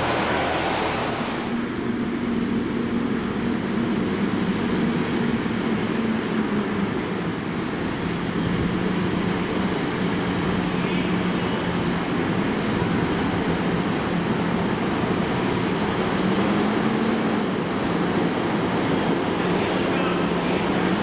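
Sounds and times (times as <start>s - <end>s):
bus diesel engine droning: 0.0s - 21.0s.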